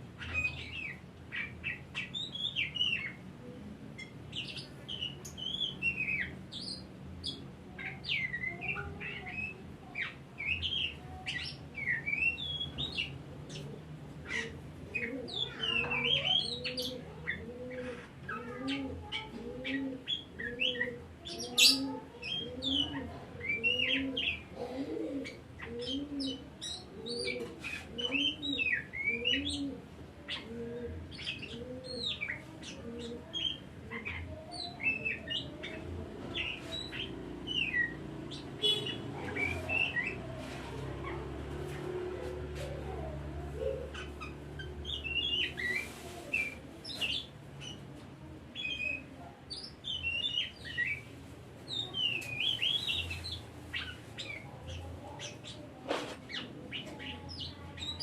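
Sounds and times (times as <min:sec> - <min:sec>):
magpie-robin singing: 0:00.2 - 0:03.3, 0:04.0 - 0:24.5, 0:25.2 - 0:30.5, 0:31.1 - 0:41.9, 0:43.6 - 0:47.8, 0:48.5 - 0:51.1, 0:51.7 - 0:55.7, 0:56.3 - 0:58.0.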